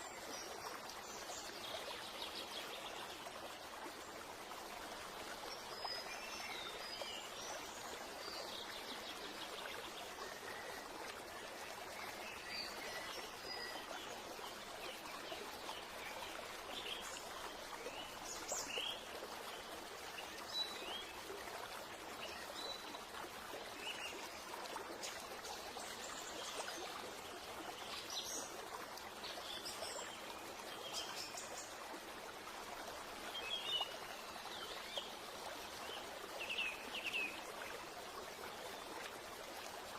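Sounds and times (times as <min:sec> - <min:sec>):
stream running water: 0:00.0 - 0:39.9.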